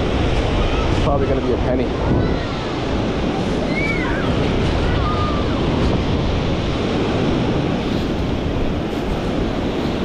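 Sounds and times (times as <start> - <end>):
small waves washing on sand: 0.0 - 10.0
wind buffeting microphone: 0.0 - 10.0.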